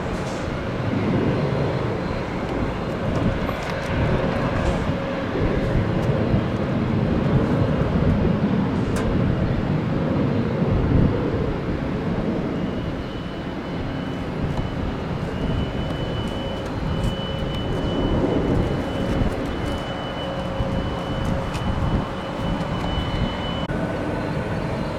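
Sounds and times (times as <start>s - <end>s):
airplane engine rumble: 0.0s - 24.9s.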